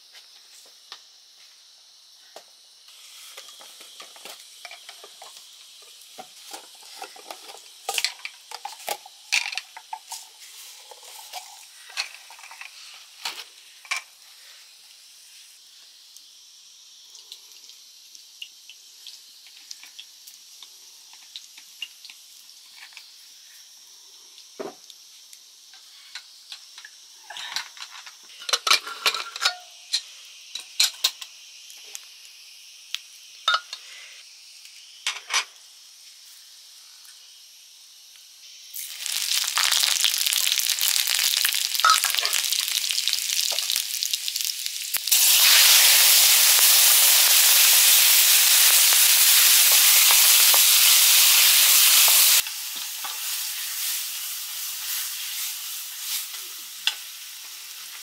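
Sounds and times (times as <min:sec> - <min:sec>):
food frying in a pan: 0:00.0 - 0:58.0.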